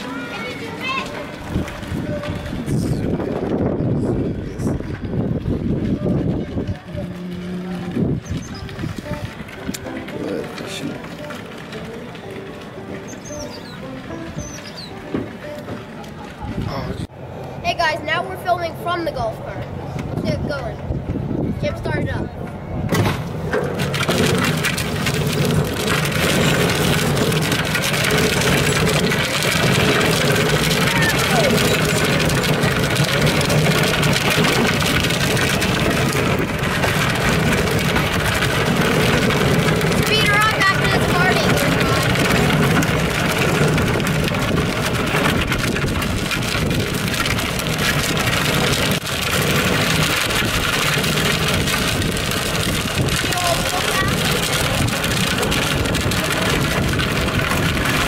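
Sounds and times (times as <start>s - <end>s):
small engine running: 0.0s - 17.1s, 23.2s - 58.0s
tyres rolling over gravel: 0.0s - 20.7s, 22.9s - 58.0s
golf cart motor humming: 0.0s - 21.4s, 22.5s - 58.0s.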